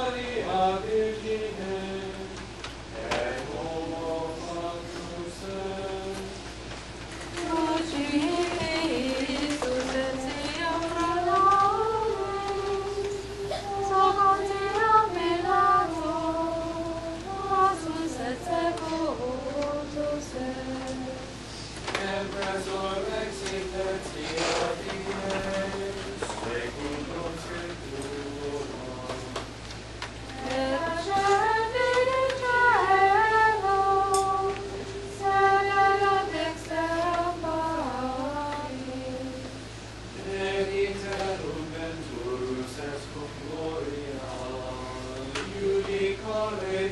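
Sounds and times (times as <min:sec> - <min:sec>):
high voices singing a hymn: 0:00.0 - 0:46.9.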